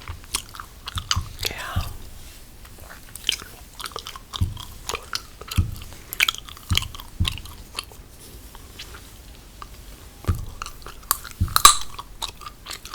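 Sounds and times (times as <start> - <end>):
gum chewing: 0.0 - 12.9.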